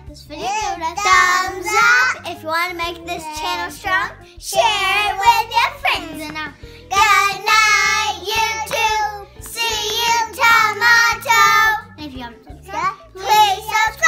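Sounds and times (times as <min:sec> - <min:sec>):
children singing: 0:00.0 - 0:02.2, 0:02.8 - 0:11.8, 0:13.2 - 0:14.0.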